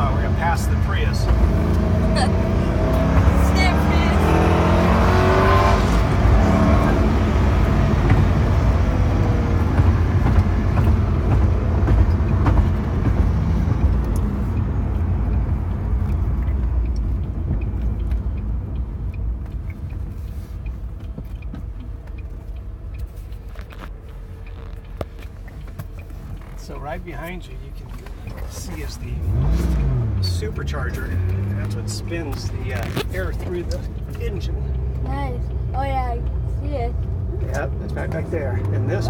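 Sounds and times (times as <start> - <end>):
car engine rumble: 0.0 - 39.0
road noise: 0.0 - 39.0.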